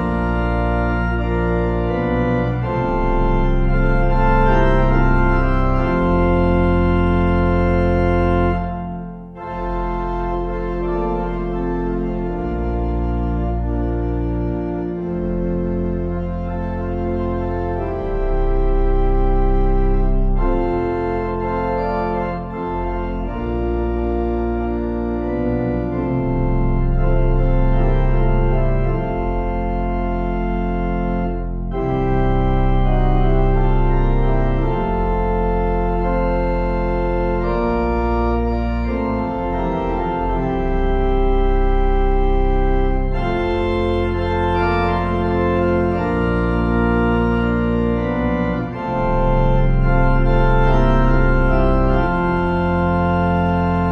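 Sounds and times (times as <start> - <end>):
organ playing held chords: 0.0 - 53.9.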